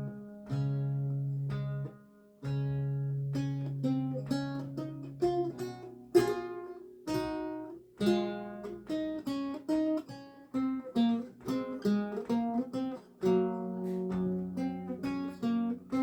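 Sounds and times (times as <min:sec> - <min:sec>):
solo lute music: 0:00.0 - 0:16.0.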